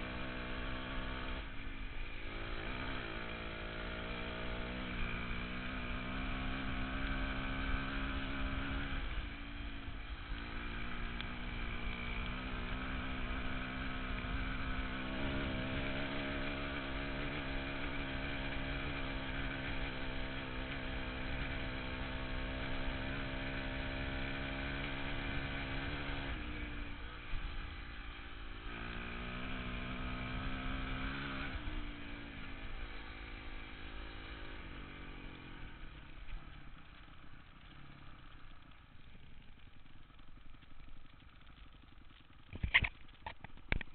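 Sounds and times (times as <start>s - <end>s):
dirt bike engine revving: 0.0s - 38.7s.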